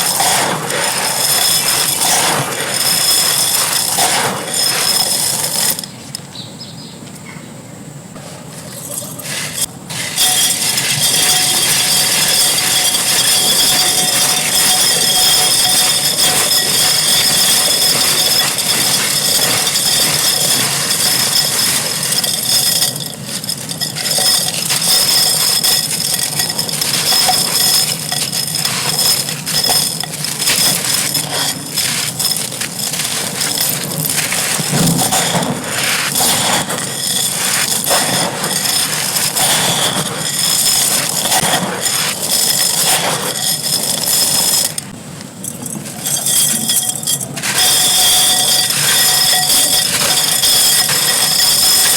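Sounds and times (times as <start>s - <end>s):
clay pot crumbling: 0.0s - 6.2s, 8.6s - 51.9s.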